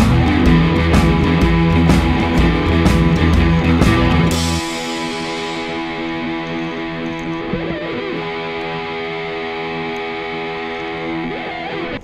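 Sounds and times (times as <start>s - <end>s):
electric guitar sustained chord: 0.0s - 12.0s.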